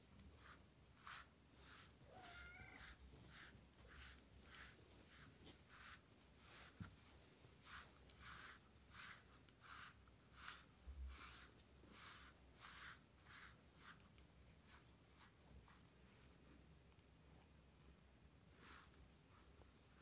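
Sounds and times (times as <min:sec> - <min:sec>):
brush swishing through cat fur: 0:00.0 - 0:16.7, 0:18.5 - 0:20.0.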